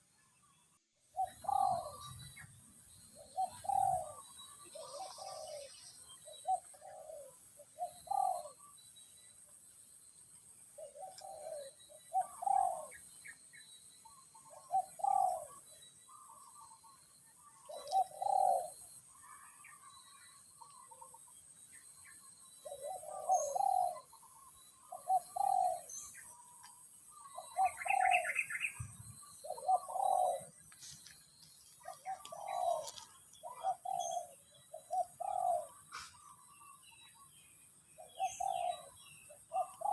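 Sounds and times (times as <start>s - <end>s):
higher bird chirp: 0.0s - 9.3s, 10.8s - 39.9s
doves cooing: 1.1s - 2.5s, 3.1s - 8.8s, 10.8s - 13.2s, 14.1s - 39.9s.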